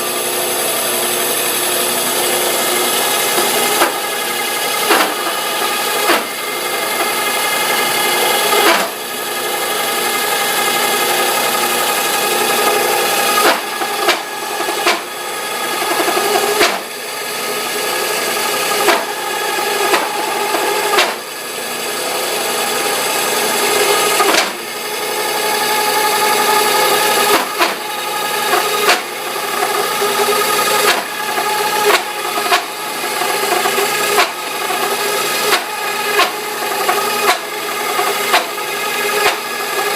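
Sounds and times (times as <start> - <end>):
drill bit cutting: 0.0 - 39.9
motor hum: 0.0 - 39.9.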